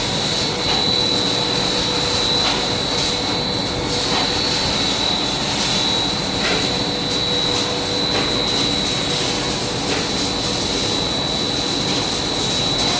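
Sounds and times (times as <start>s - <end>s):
industrial machinery running: 0.0s - 12.9s.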